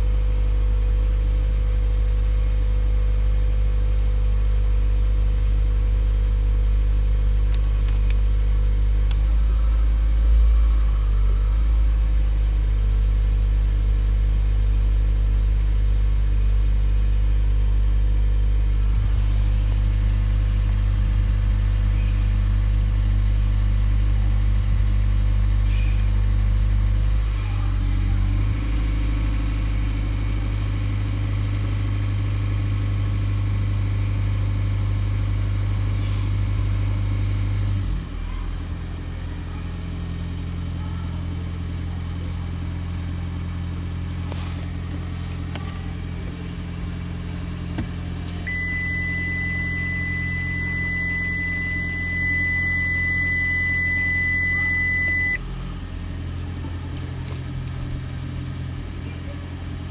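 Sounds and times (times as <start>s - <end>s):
car low drone: 4.3s - 59.9s.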